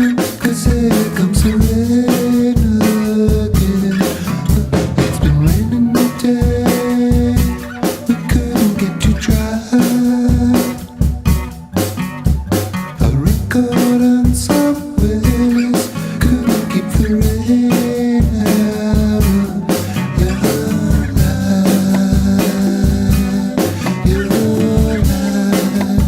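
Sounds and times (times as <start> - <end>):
band playing blues song: 0.0 - 26.0.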